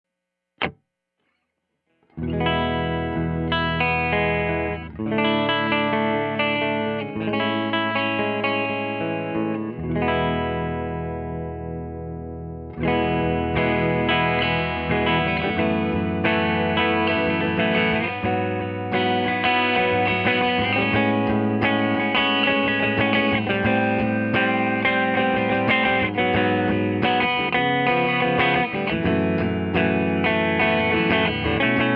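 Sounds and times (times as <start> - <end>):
electric guitar chords ringing: 2.2 - 31.9.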